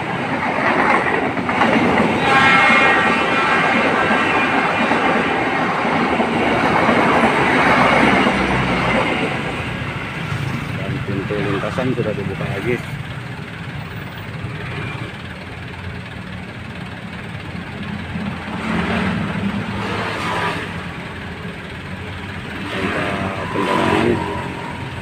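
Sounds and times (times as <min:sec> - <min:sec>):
cars and truck idling: 0:00.0 - 0:25.0
engines revving: 0:00.0 - 0:25.0.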